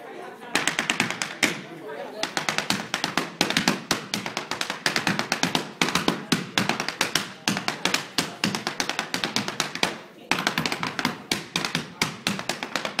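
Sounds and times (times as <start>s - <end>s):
dance shoes tapping on wooden floor: 0.6s - 1.6s, 2.2s - 13.0s.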